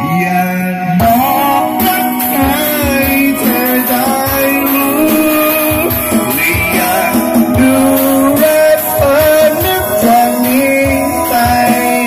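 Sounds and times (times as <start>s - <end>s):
guitar: 0.0s - 12.0s
man singing into a microphone: 0.0s - 12.0s
thumping bass drum: 1.0s - 12.0s.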